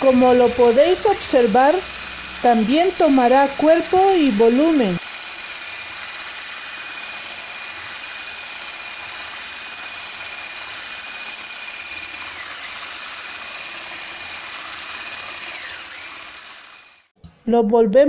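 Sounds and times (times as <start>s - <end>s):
electric hand mixer whining: 0.0s - 17.2s.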